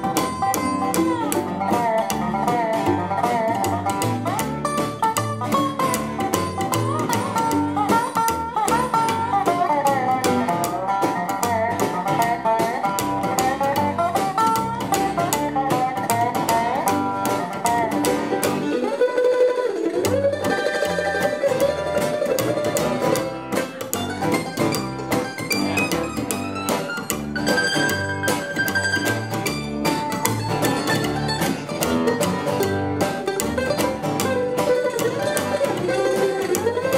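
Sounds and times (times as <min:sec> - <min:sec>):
guitars picking country melody: 0:00.0 - 0:36.9
plucked upright bass: 0:00.0 - 0:36.9.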